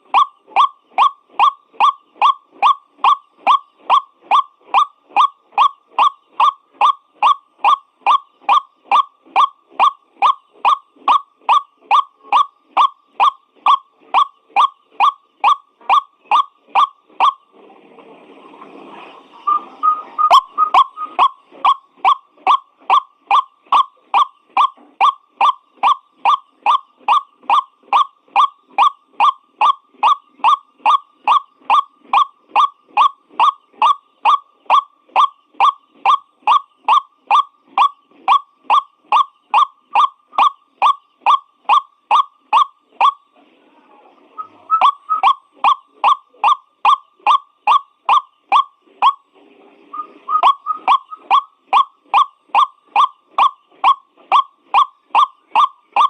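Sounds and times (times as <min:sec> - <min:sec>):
waterhen calling: 0:00.0 - 0:17.4, 0:19.4 - 0:43.2, 0:44.3 - 0:49.2, 0:49.9 - 0:56.0.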